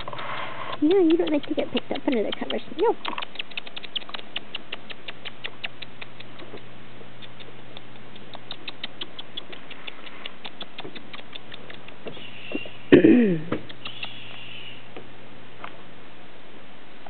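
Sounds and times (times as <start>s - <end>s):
parrot clicking: 0.0s - 12.9s, 13.6s - 14.5s.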